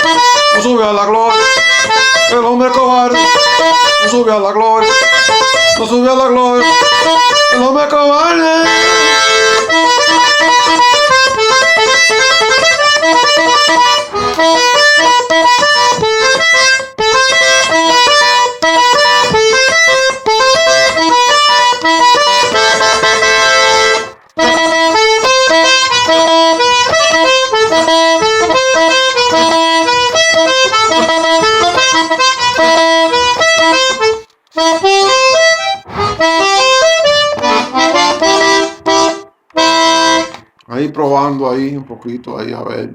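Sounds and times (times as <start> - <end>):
button accordion playing: 0.0 - 41.2.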